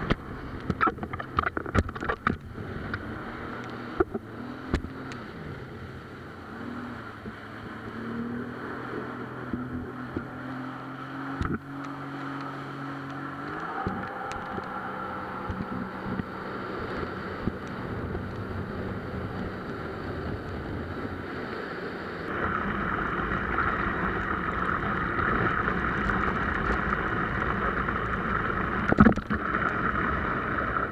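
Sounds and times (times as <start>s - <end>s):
jet ski engine: 0.0s - 30.9s
rushing water: 0.0s - 30.9s
wind: 0.0s - 30.9s.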